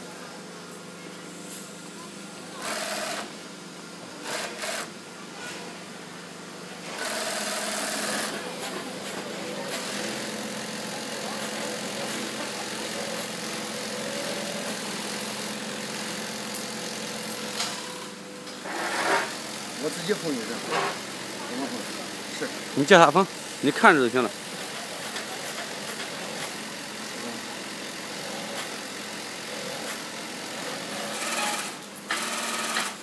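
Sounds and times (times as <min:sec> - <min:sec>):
industrial sewing machine running: 0:02.6 - 0:03.4, 0:04.1 - 0:04.9, 0:06.9 - 0:33.0.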